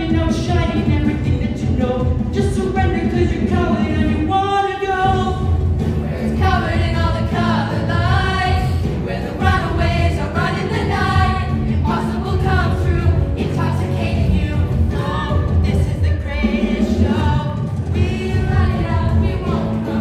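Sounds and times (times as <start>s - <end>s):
amplified backing music: 0.0s - 20.0s
cast singing into microphones: 0.0s - 20.0s.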